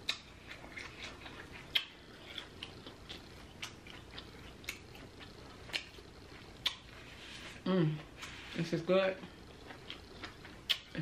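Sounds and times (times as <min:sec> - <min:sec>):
person chewing food: 0:00.0 - 0:08.6, 0:09.2 - 0:11.0.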